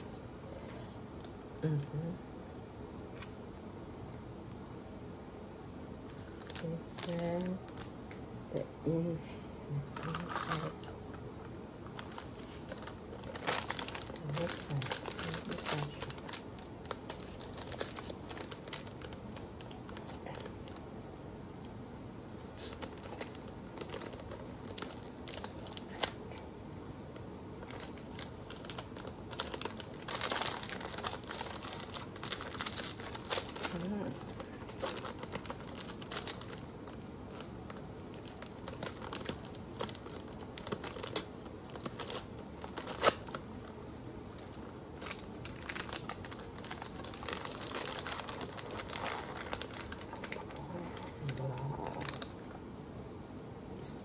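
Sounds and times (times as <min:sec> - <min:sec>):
plastic packaging crinkling and tearing: 0:06.1 - 0:08.6, 0:09.7 - 0:20.8, 0:22.3 - 0:52.5.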